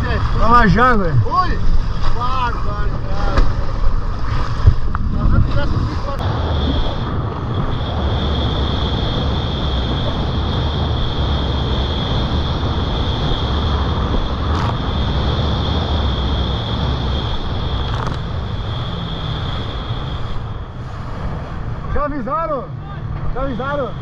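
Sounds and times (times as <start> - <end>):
wind on microphone: 0.0 - 22.0
jet ski engine drone: 0.0 - 24.0.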